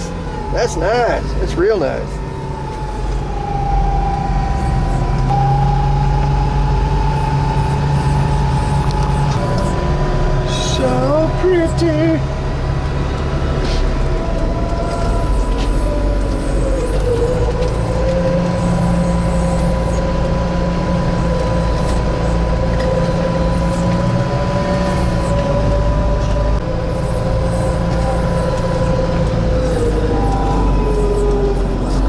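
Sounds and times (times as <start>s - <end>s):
snow vehicle engine drone: 0.0s - 32.0s.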